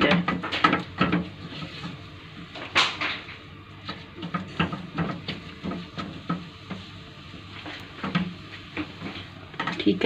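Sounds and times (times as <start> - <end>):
spatula scraping dough in pan: 0.0 - 2.6, 3.8 - 9.4.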